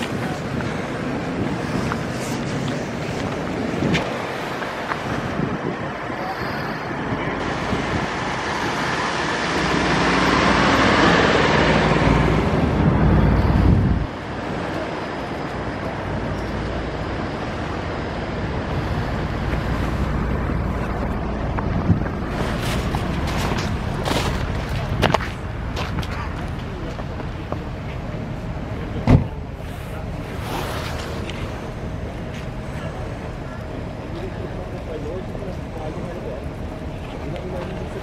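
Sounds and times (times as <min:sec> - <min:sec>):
road traffic rushing past: 0:00.0 - 0:38.0.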